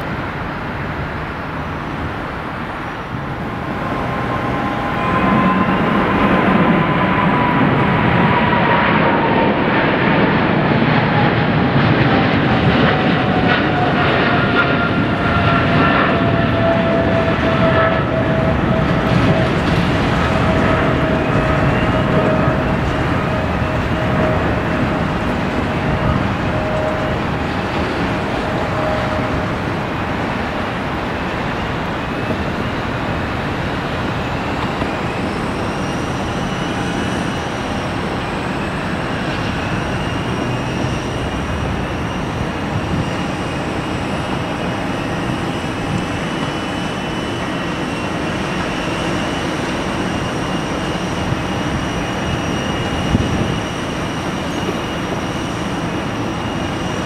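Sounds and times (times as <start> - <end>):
jet engine roar: 0.0 - 57.0.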